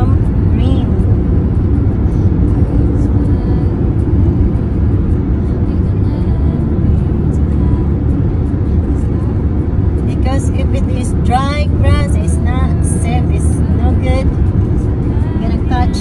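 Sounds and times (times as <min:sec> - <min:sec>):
car road rumble inside cabin: 0:00.0 - 0:16.0.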